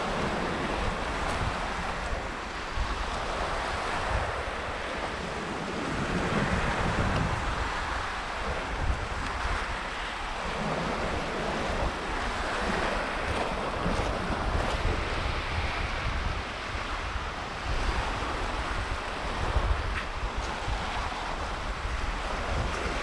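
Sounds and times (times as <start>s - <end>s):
surf washing on shore: 0.0s - 23.0s
wind buffeting microphone: 0.0s - 23.0s.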